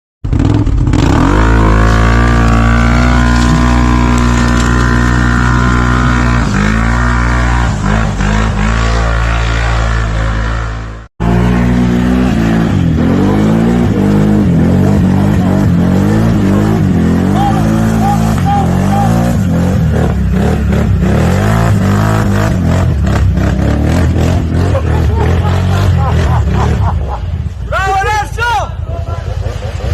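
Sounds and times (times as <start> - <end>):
atv engine revving: 0.2 - 27.7.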